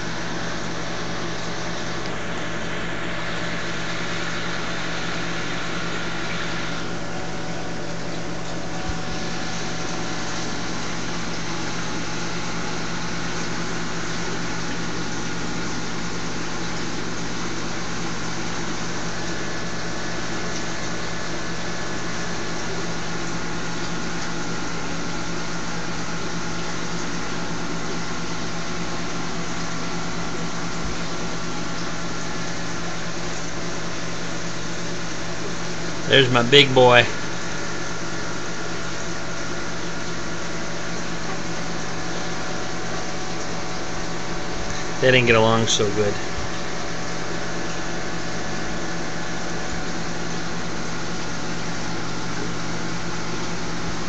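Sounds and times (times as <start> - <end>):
aquarium pump humming: 0.0 - 54.0.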